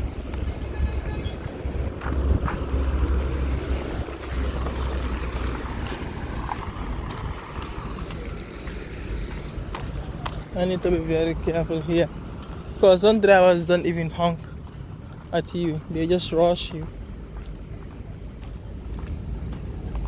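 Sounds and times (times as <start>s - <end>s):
road traffic passing: 0.0s - 20.0s
wind rumbling on microphone: 0.0s - 20.0s.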